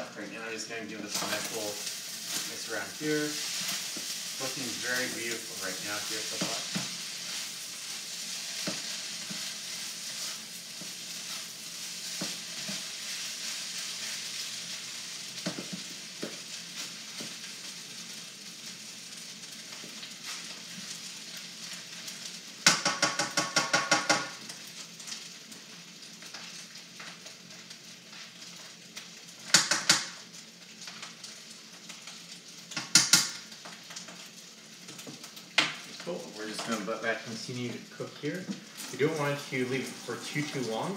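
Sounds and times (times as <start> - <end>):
rice sizzling in a wok: 0.0 - 40.9.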